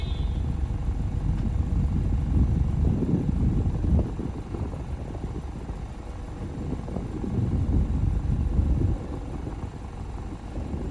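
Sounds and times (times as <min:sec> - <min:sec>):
car engine idling rumble: 0:00.0 - 0:10.9.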